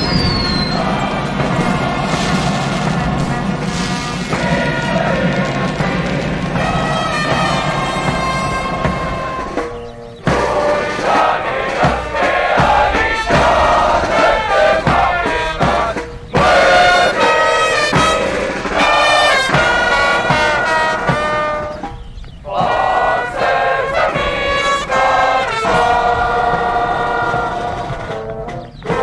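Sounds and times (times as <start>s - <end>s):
brass band playing: 0.0s - 29.0s
steady drum beats: 0.0s - 29.0s.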